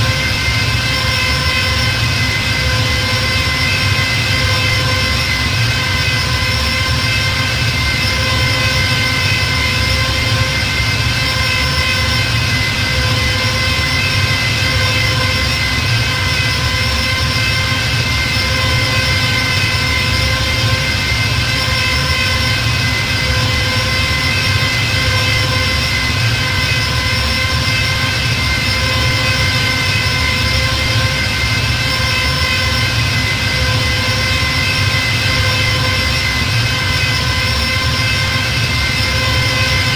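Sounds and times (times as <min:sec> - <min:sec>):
high whine over low rumble: 0:00.0 - 0:39.9.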